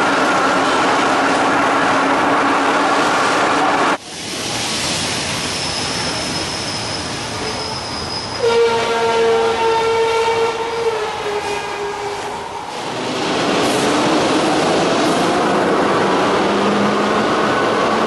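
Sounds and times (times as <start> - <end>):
subway carriage rumbling: 0.0 - 18.0.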